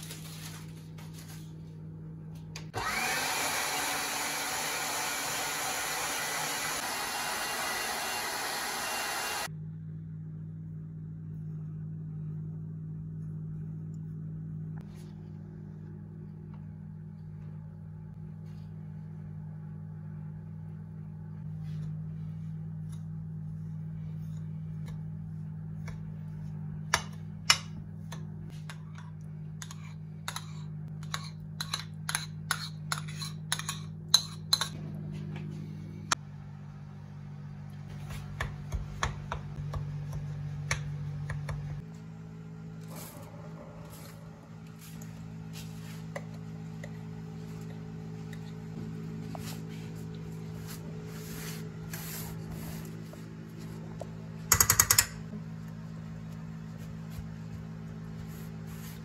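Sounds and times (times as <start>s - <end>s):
steady low hum: 9.1s - 59.0s.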